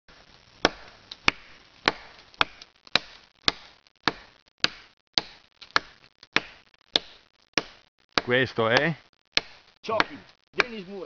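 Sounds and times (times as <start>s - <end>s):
knife chopping wood: 0.6s - 10.8s.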